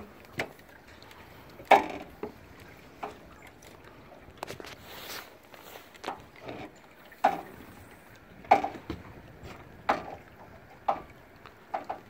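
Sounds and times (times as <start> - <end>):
waves slapping boat hull: 0.0 - 12.0.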